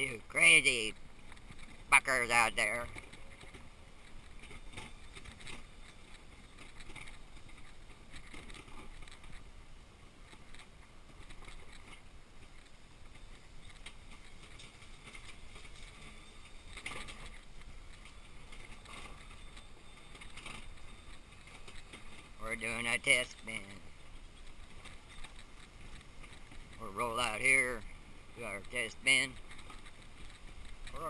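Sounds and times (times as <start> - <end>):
wheelchair rolling on asphalt: 0.0 - 31.0.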